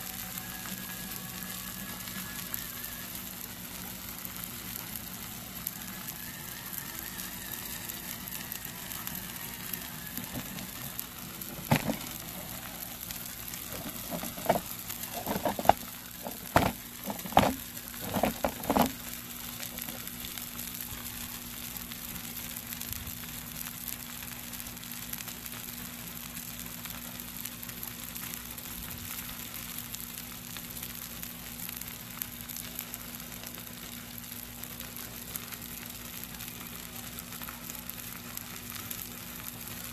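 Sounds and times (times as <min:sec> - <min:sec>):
steaks sizzling on griddle: 0:00.0 - 0:39.9.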